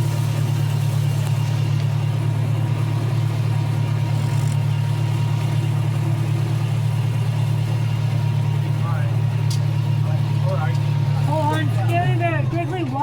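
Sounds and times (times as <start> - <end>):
train engine droning: 0.0 - 13.0.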